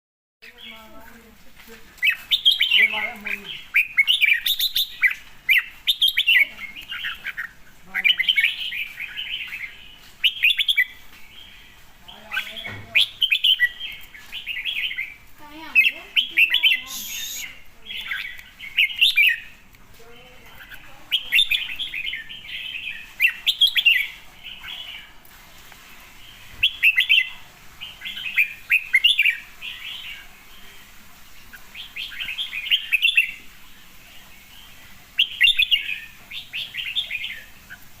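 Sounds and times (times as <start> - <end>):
bird singing warbling phrases: 0.4 - 25.2, 26.1 - 38.0.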